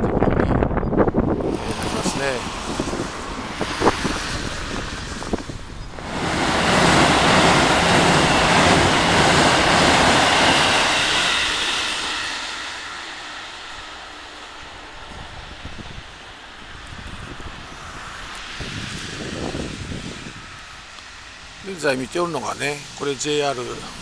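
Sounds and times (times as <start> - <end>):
wind on microphone: 0.0 - 12.7, 14.6 - 21.7
train rumbling over bridge: 0.0 - 24.0.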